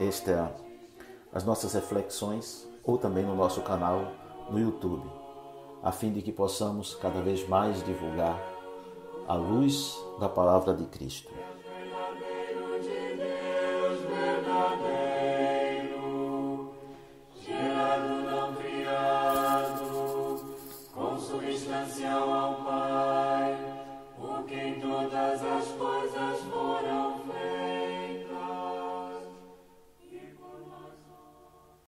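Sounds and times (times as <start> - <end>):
choir singing a slow chant: 0.0 - 31.9.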